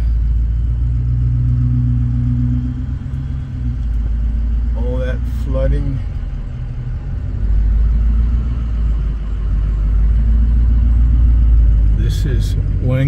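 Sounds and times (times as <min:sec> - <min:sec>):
vehicle rumble from inside cab: 0:00.0 - 0:13.0.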